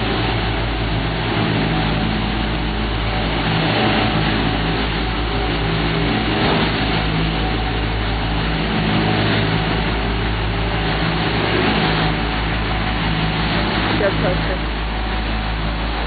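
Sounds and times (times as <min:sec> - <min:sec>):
heavy diesel engines idling: 0:00.0 - 0:16.0
mechanical rumble: 0:00.0 - 0:16.0.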